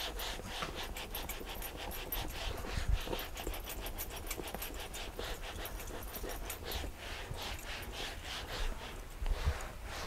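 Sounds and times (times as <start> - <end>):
cloth rubbing a boat seat: 0.0 - 10.0.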